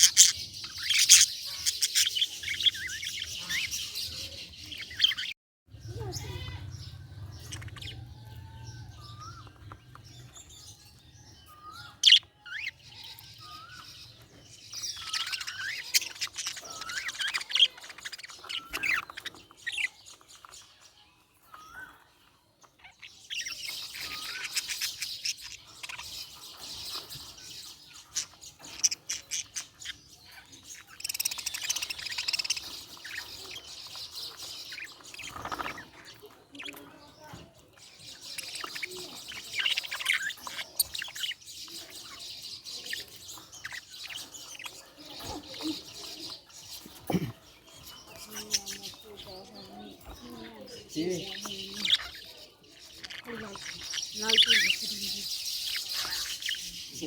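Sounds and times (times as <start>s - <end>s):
budgerigars chirping: 0.0s - 5.3s, 5.9s - 57.0s.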